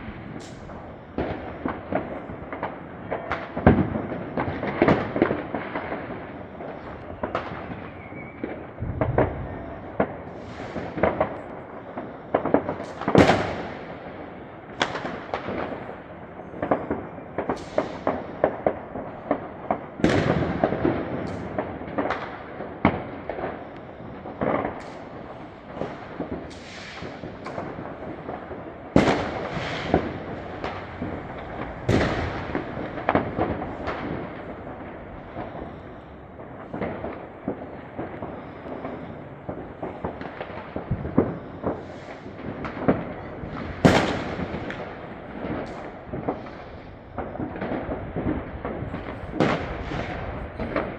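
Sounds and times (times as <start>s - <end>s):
distant crackle: 0.0s - 50.9s
fireworks banging: 0.0s - 50.9s.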